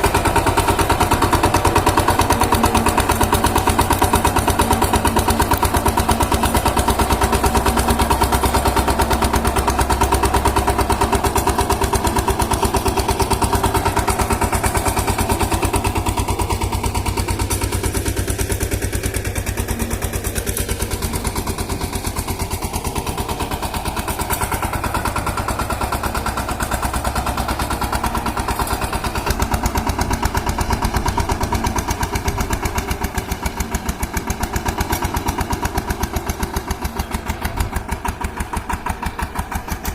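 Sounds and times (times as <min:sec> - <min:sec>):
tiller engine chugging: 0:00.0 - 0:39.9.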